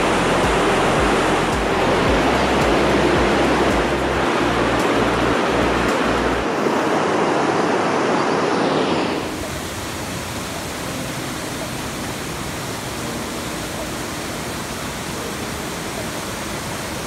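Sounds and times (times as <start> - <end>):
rushing white water: 0.0 - 17.0.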